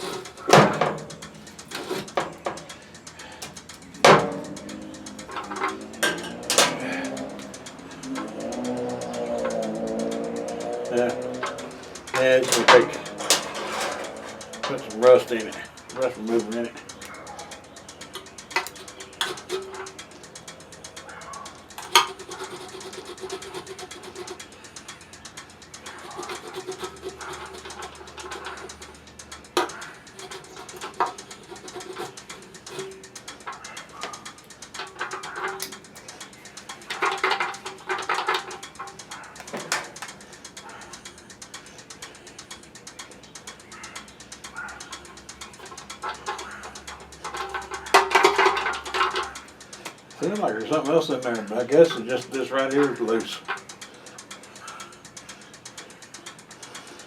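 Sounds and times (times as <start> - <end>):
tools clattering when handled: 0.0 - 24.6, 25.8 - 42.5, 43.6 - 53.8
doves cooing: 0.0 - 57.0.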